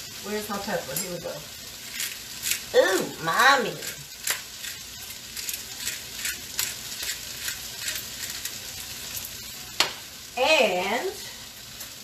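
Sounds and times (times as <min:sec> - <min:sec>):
cabbage sizzling in oil: 0:00.0 - 0:12.0.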